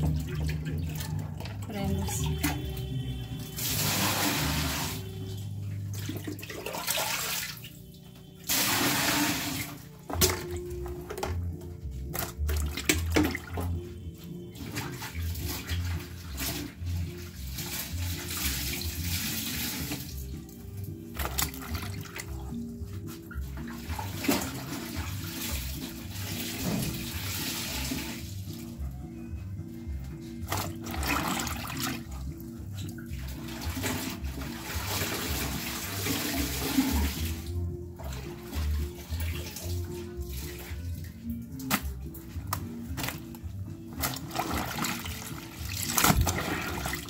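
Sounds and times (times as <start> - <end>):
water splashing in a tub: 0.0 - 28.8, 30.4 - 47.0
background music: 0.0 - 47.0.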